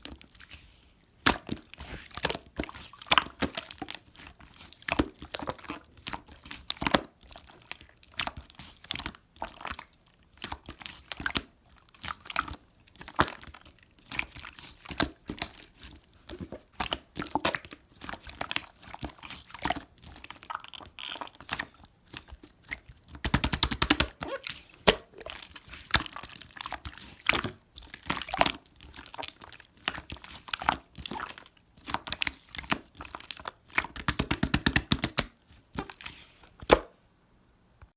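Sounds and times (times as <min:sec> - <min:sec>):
hands squelching slime: 0:00.0 - 0:36.8.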